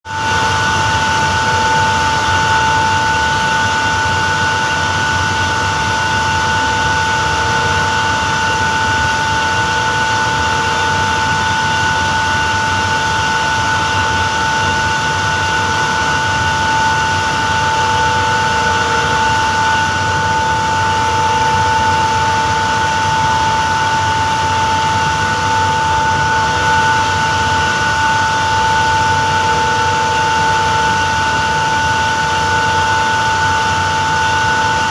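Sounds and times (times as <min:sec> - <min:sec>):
compressor hum with high whine: 0:00.1 - 0:34.9.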